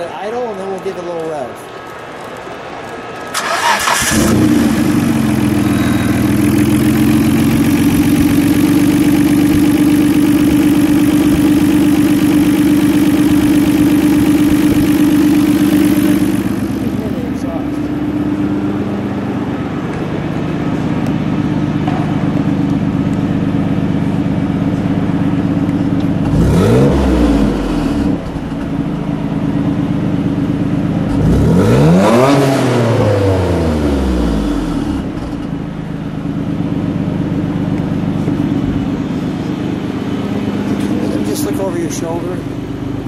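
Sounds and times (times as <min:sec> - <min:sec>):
car engine idling and revving: 0:03.3 - 0:43.0.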